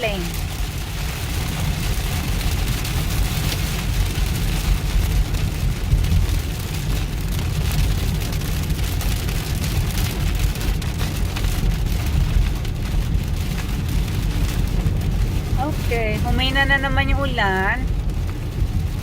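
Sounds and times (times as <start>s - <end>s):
car driving on wet road: 0.0s - 19.0s
heavy rain on a car: 0.0s - 19.0s.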